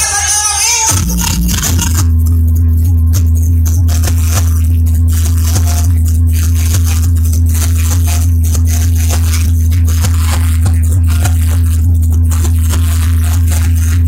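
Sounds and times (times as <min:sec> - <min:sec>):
distorted bass-heavy music: 0:00.0 - 0:14.0.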